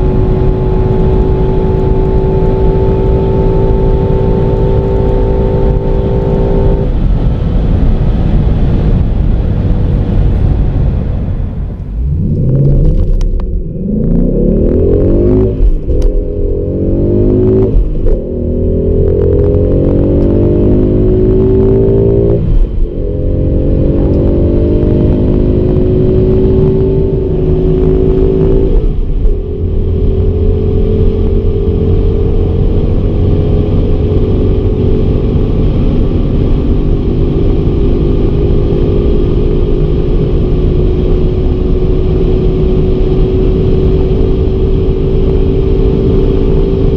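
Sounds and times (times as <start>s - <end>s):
car engine accelerating: 0.0s - 46.9s
road and wind rumble: 0.0s - 46.9s.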